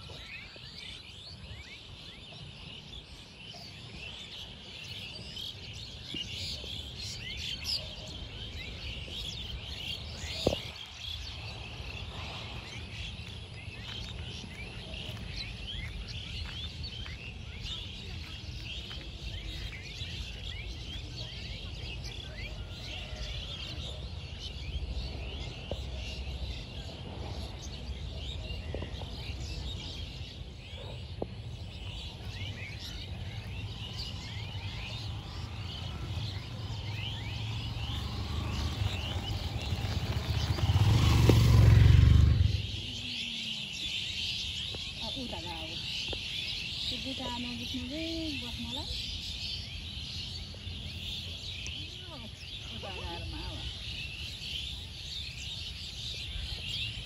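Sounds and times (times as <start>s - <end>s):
flock of birds chirping: 0.0s - 57.0s.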